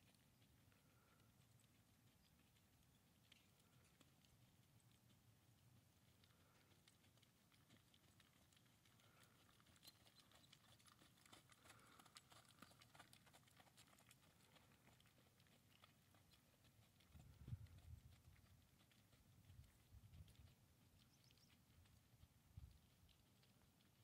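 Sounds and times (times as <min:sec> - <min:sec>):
hoofbeats on dirt: 0:00.0 - 0:24.0.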